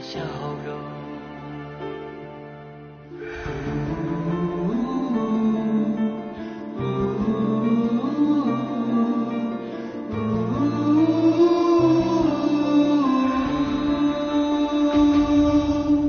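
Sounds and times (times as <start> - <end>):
slow ballad singing: 0.0 - 16.0.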